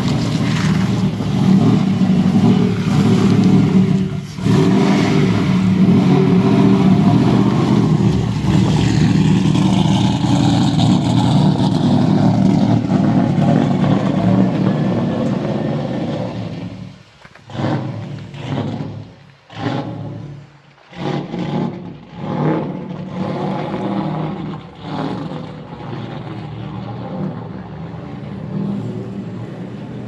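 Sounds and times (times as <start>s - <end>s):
loud van engine driving off: 0.0s - 30.0s.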